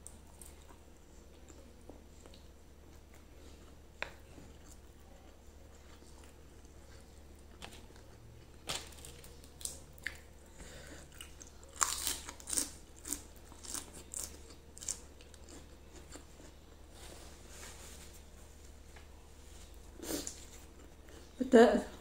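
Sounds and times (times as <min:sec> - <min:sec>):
person chewing crunchy food: 0:00.0 - 0:16.8, 0:19.9 - 0:21.4.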